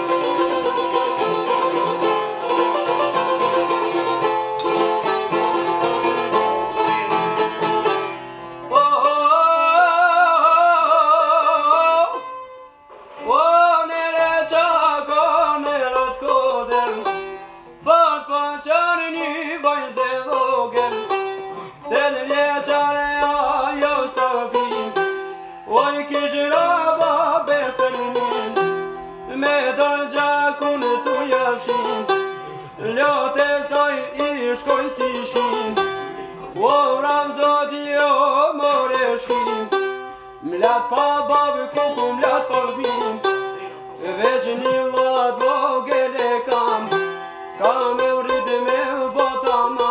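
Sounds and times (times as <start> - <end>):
plucked lutes playing folk tune: 0.0 - 49.9.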